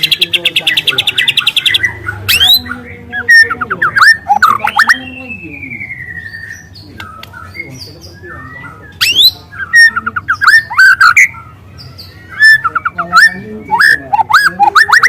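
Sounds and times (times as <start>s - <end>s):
songbird whistling: 0.0s - 11.5s, 12.1s - 15.0s.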